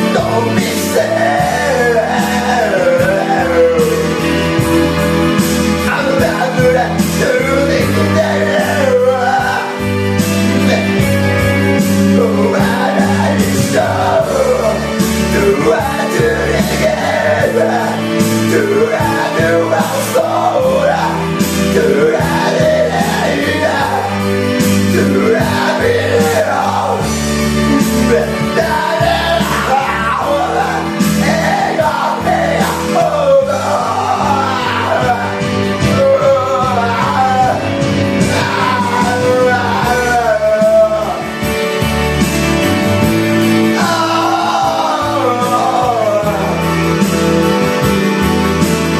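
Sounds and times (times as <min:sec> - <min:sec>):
man singing into microphone: 0:00.0 - 0:41.7, 0:43.4 - 0:47.9
karaoke backing track: 0:00.0 - 0:48.9.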